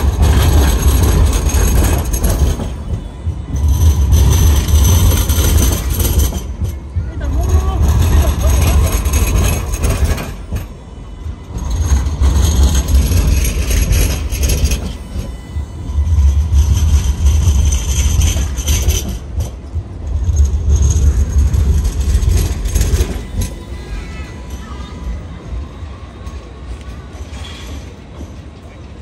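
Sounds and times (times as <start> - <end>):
tram rumble: 0.0 - 29.0
wheels hissing on rail: 0.0 - 29.0.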